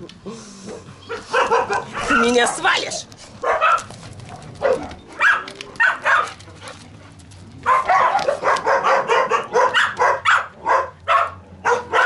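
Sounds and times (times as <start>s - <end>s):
dogs barking: 0.7s - 6.8s, 7.6s - 12.0s.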